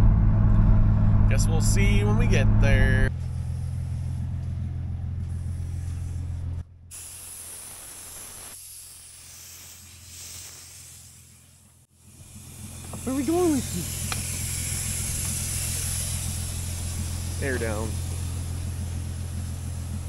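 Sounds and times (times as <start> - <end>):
vehicle engine droning: 0.0 - 7.0, 10.7 - 20.0
air hissing from tire valve: 3.1 - 4.6, 5.2 - 20.0.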